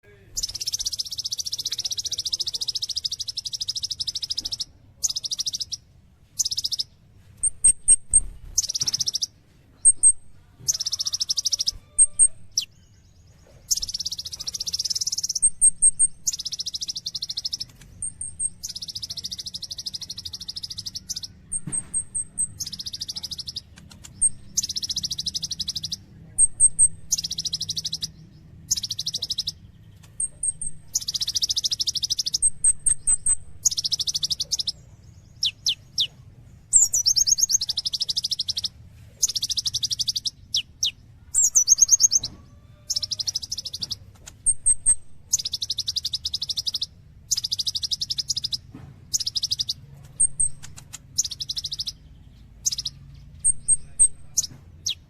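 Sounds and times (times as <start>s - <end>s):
sunbird buzzy trills: 0.0s - 55.0s.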